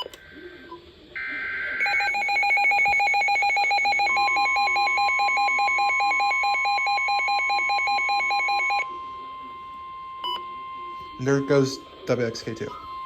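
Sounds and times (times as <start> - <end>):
steady alarm tone: 1.2 - 13.0.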